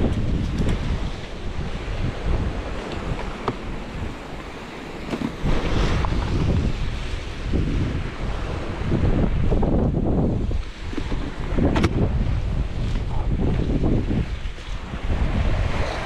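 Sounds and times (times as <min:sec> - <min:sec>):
rough sea waves: 0:00.0 - 0:16.0
wind buffeting microphone: 0:00.0 - 0:16.0.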